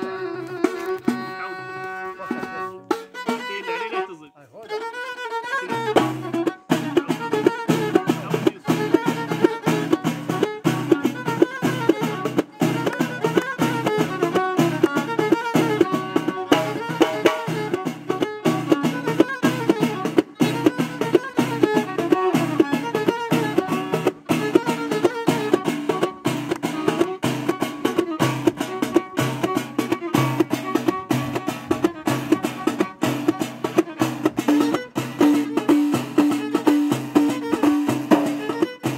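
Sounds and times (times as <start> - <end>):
frame drums beating: 0.0 - 3.9, 5.5 - 38.9
violin melody: 0.0 - 38.9.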